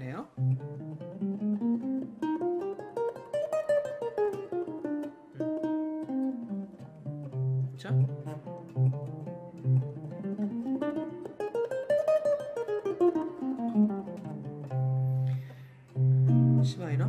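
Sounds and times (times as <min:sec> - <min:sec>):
nylon-string guitar playing scale: 0:00.0 - 0:17.0.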